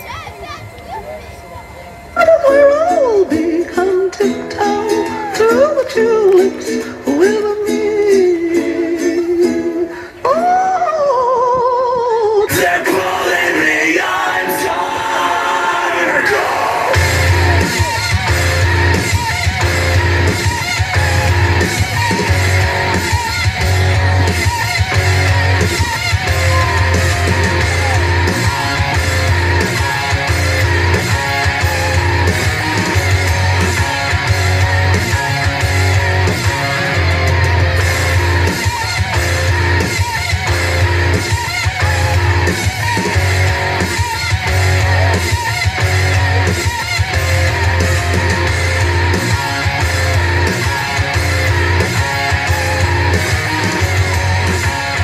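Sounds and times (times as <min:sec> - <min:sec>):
heavy metal music: 0:00.0 - 0:10.6, 0:12.4 - 0:55.0.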